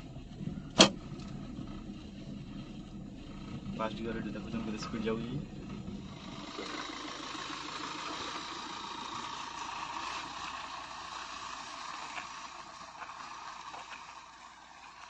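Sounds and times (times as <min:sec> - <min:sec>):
car driving on dirt: 0:00.0 - 0:15.0.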